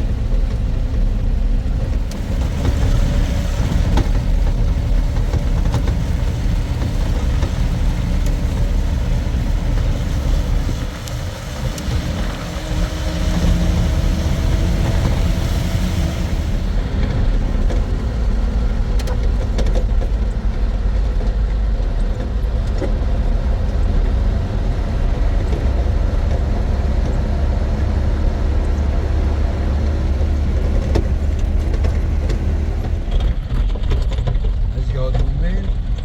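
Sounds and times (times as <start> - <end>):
vehicle engine and road rumble: 0.0 - 36.0.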